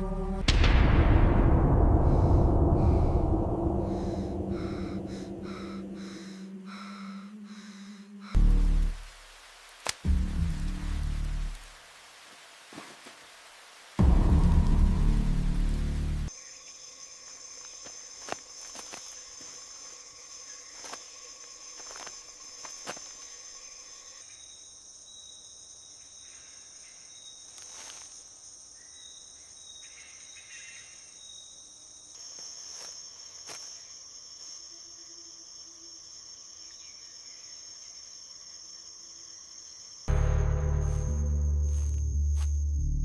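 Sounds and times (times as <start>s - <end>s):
high-pitched insect chorus: 0.0s - 11.6s, 14.0s - 43.0s.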